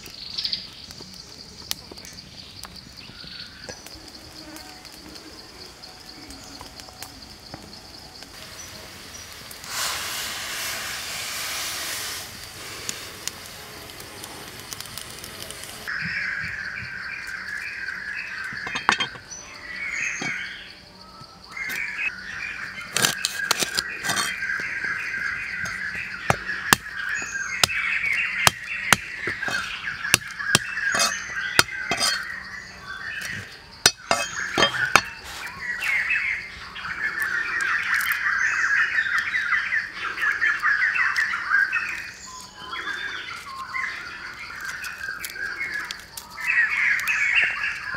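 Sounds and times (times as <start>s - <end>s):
birds chirping: 0.0s - 9.5s, 13.3s - 47.9s
pot boiling over hiss: 0.0s - 20.5s, 21.5s - 47.9s.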